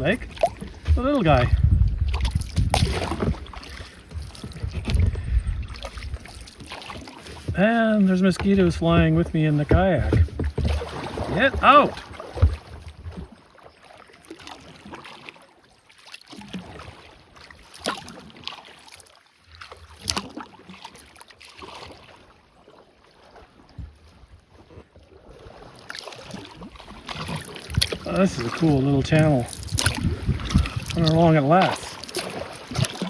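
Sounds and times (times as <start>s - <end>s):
kayak paddle splashes: 0.0s - 33.0s.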